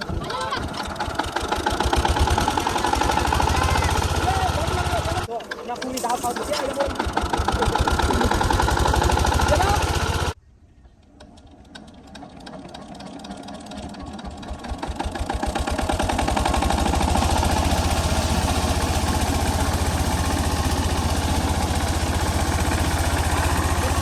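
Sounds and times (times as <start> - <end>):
diesel engine running: 0.0 - 5.3, 6.2 - 10.4, 11.7 - 24.0.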